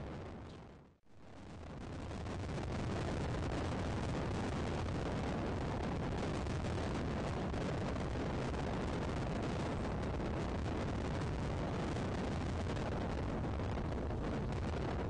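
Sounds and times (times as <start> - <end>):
wind buffeting microphone: 1.4 - 15.0.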